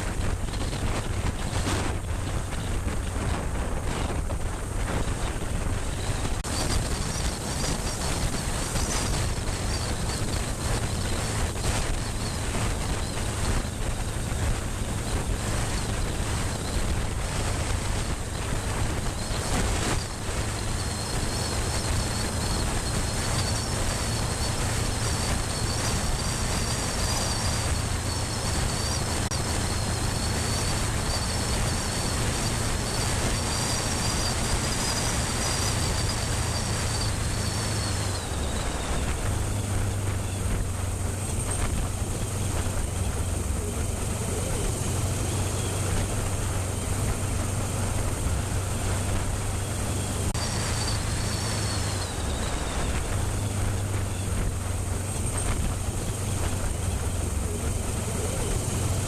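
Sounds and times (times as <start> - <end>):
high wavering whine: 0.0 - 59.0
wind buffeting microphone: 0.0 - 59.0.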